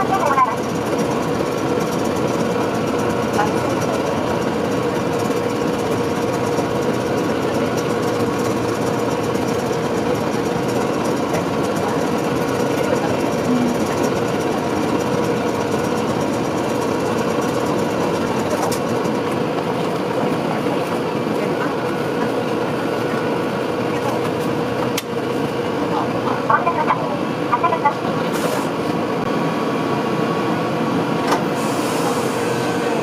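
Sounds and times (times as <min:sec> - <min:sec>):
tram machinery humming and rattling: 0:00.0 - 0:33.0.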